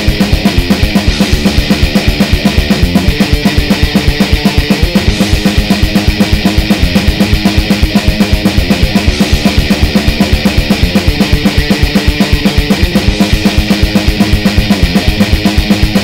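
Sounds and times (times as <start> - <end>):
fast drum beat: 0.0 - 16.0.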